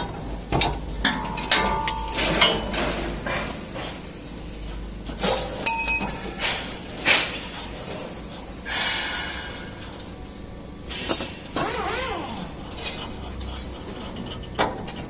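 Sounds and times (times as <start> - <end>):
metal clinking and scraping: 0.6 - 10.2, 10.8 - 11.8, 12.7 - 15.0.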